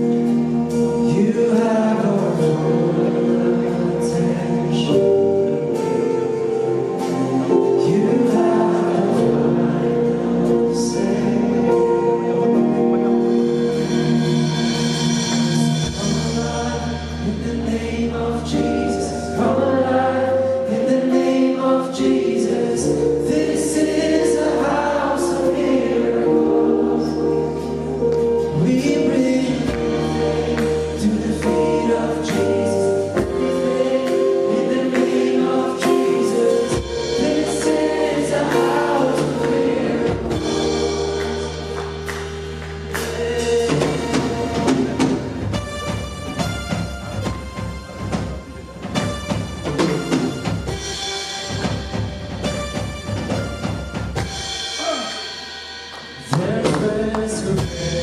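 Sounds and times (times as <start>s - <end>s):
choir singing: 0.0s - 45.6s, 54.6s - 58.0s
band playing gospel music: 0.0s - 58.0s.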